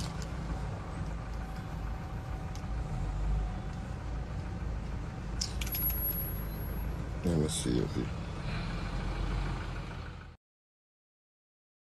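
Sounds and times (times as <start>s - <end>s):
low outdoor rumble: 0.0s - 10.4s.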